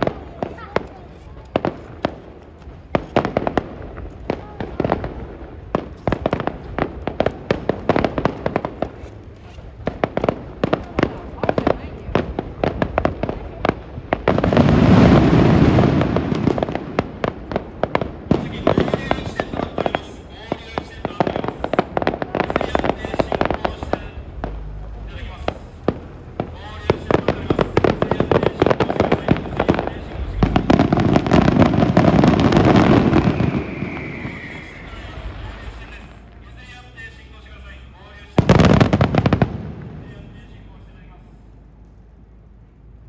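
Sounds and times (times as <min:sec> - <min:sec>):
fireworks bangs and crackle: 0:00.0 - 0:41.3.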